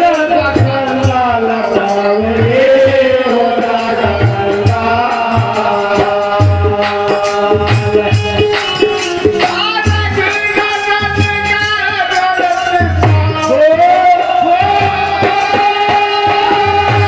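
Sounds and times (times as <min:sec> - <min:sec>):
hand drum beat: 0:00.0 - 0:17.0
man singing: 0:00.0 - 0:17.0
shaken rattle percussion: 0:00.0 - 0:17.0.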